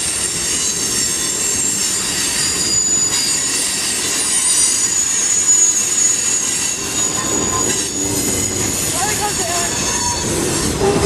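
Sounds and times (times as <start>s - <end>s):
freight train cars rumbling: 0.0s - 11.0s
wheels squealing against rail: 0.0s - 11.0s.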